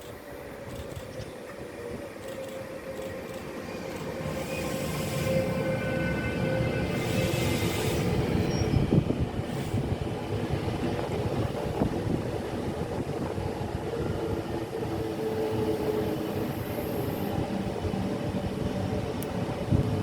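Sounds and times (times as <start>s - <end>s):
train rumbling on track: 0.0s - 20.0s.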